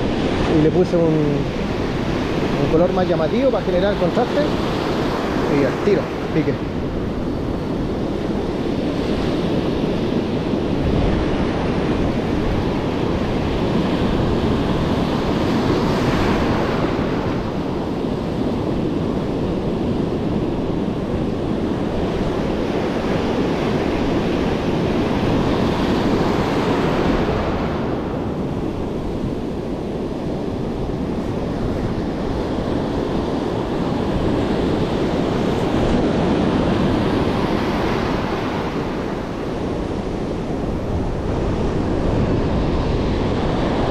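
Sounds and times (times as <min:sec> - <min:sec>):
surf breaking on beach: 0:00.0 - 0:43.9
wind buffeting microphone: 0:00.0 - 0:43.9.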